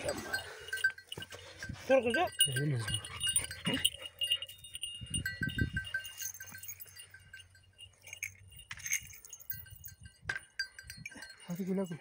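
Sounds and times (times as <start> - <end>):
small metal bells tinkling: 0.0 - 12.0.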